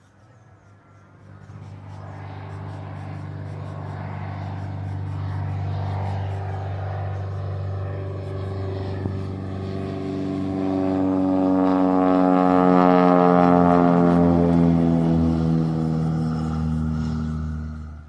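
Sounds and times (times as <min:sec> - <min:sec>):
piston engine and propeller running: 0:00.0 - 0:18.0.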